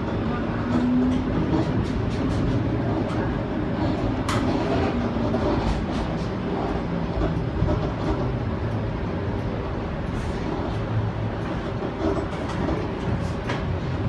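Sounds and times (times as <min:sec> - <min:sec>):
streetcar wheels rumbling on rail: 0:00.0 - 0:14.0.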